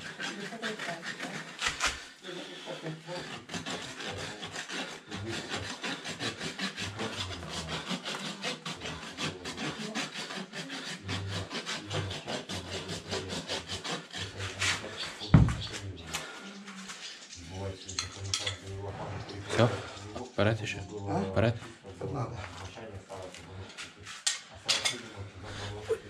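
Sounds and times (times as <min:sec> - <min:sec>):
rasp filing a hoof: 0:00.0 - 0:20.5, 0:21.5 - 0:26.0.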